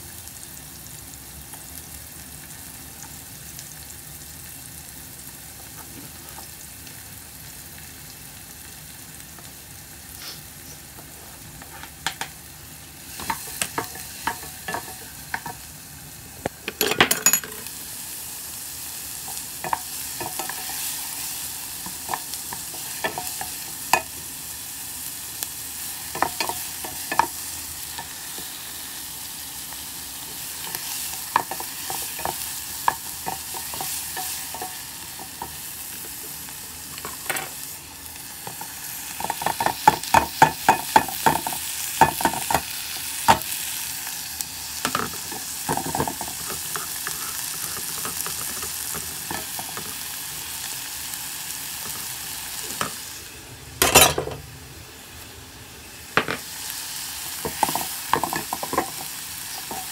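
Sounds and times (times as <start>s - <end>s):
onion sizzling in hot oil: 0.0s - 59.9s.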